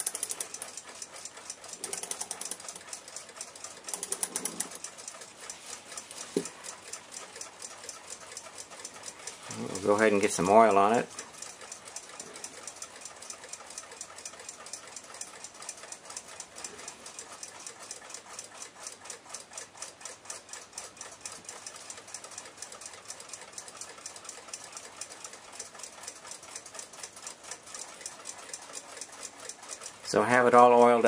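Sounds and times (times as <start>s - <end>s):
clock ticking rapidly: 0.0s - 31.0s.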